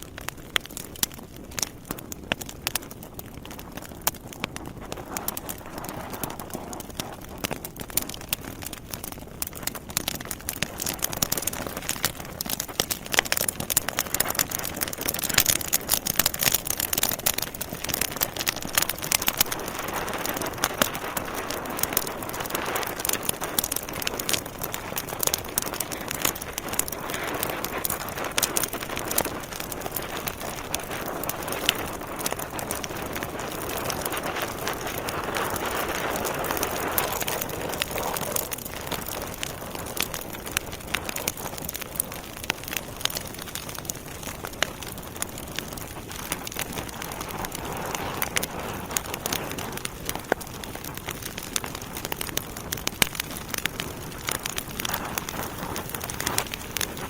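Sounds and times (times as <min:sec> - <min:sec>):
logs crackling in fireplace: 0:00.0 - 0:57.0.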